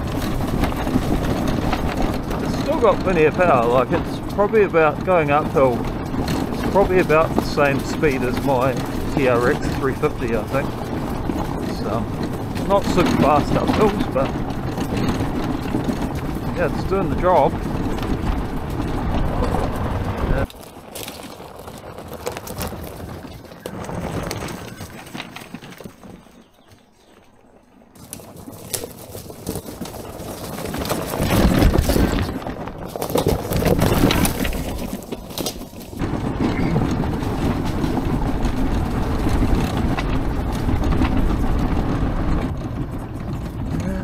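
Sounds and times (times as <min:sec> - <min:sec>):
chassis rattling: 0:00.0 - 0:44.0
tyres crunching on stones: 0:00.0 - 0:44.0.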